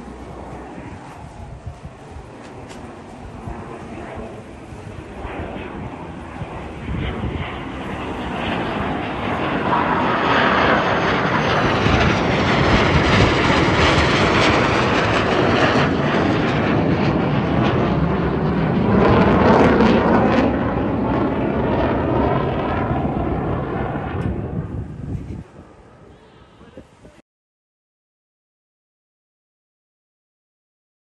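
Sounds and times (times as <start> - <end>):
jet flying over roaring: 0.0 - 27.2.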